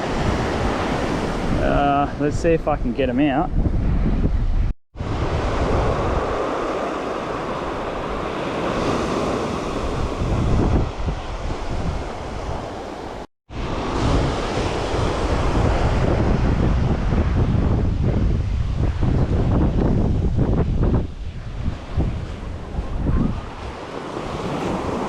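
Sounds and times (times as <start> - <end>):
surf washing on a beach: 0.0 - 2.6, 5.0 - 25.0
wind buffeting the microphone: 0.0 - 25.0.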